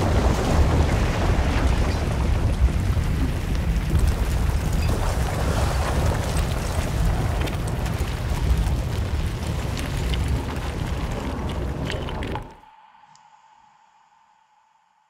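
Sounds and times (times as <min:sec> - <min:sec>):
small crackles and clicks: 0:00.0 - 0:12.6
deep rumbling drone: 0:00.0 - 0:12.8.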